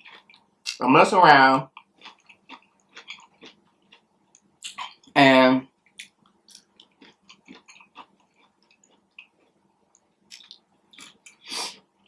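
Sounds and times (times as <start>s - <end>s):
person chewing food: 0.0s - 0.8s, 1.7s - 5.2s, 5.8s - 12.0s.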